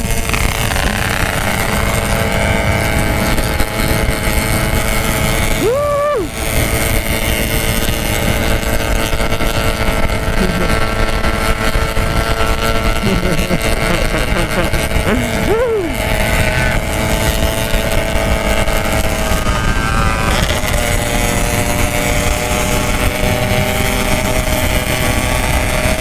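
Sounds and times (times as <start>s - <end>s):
motorcycle engines cruising: 0.0s - 26.0s.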